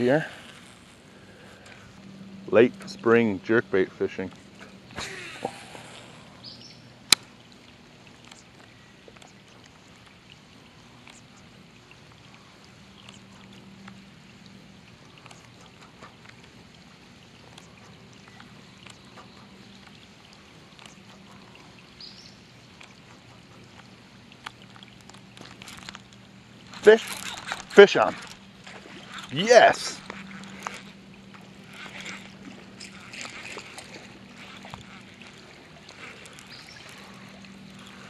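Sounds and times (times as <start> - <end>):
rain falling on a lake: 0.0 - 38.0.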